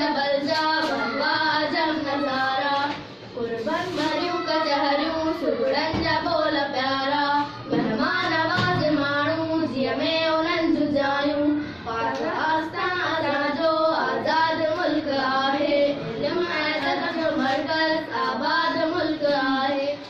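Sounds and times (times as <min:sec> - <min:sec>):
girls singing a chant: 0:00.0 - 0:20.0.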